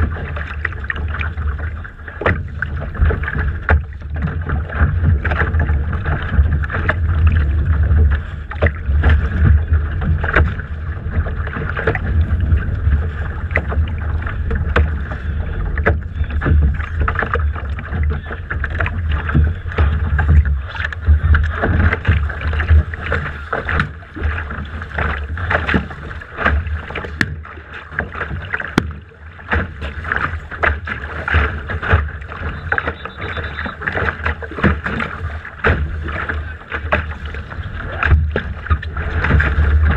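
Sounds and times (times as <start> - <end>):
water slapping against hull: 0.0 - 39.9
wind buffeting microphone: 0.0 - 39.9.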